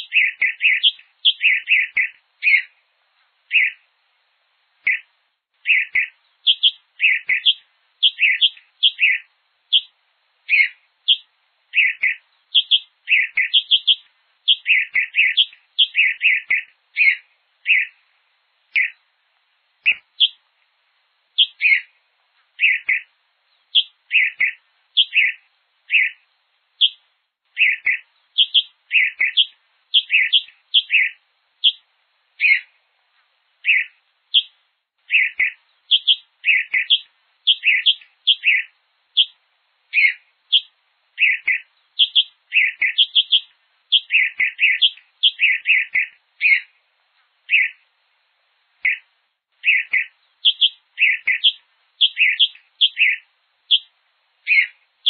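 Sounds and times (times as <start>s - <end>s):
bird chirping: 0.0s - 3.9s, 4.8s - 19.1s, 19.8s - 20.5s, 21.3s - 32.8s, 33.5s - 46.8s, 47.4s - 47.9s, 48.8s - 55.0s.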